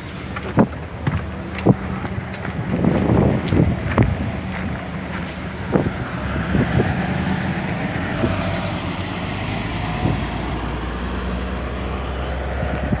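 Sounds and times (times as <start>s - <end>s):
diesel bus engine running: 0.0s - 13.0s
rattles from bus: 0.0s - 13.0s.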